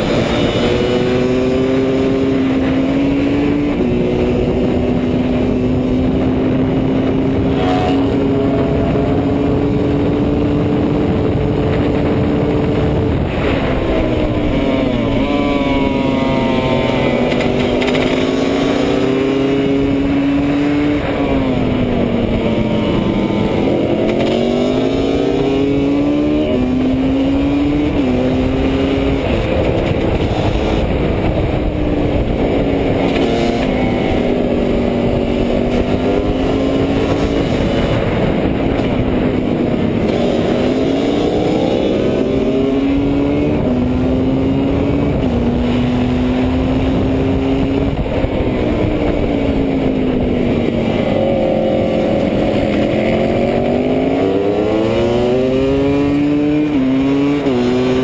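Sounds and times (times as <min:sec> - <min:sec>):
motorcycle engine at race pace: 0:00.0 - 0:58.0
wind rush on microphone: 0:00.0 - 0:58.0.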